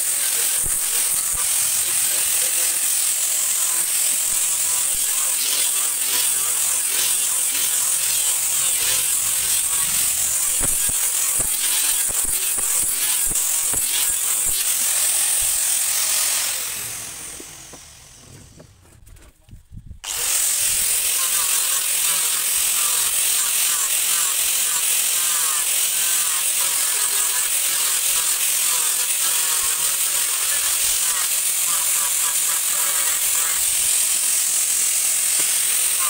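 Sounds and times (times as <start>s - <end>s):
angle grinder sanding wood: 0.0s - 18.7s, 20.0s - 36.0s.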